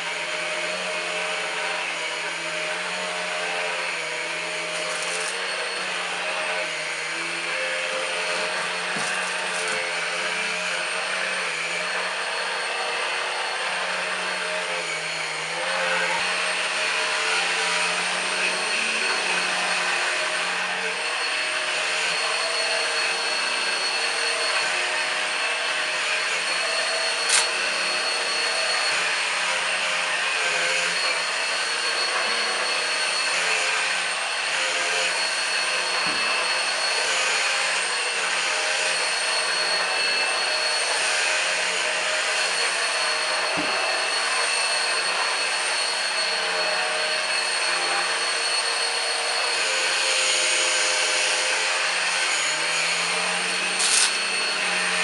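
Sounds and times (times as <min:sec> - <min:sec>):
stick vacuum running: 0:00.1 - 0:55.0.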